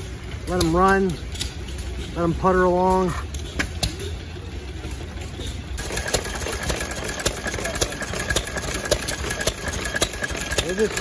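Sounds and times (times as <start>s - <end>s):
stationary gas engines puttering: 0.0s - 11.0s.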